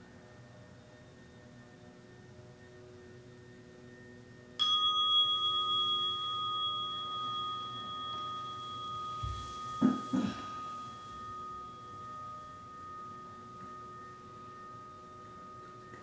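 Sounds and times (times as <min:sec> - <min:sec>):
singing bowl ringing: 0:00.3 - 0:16.0.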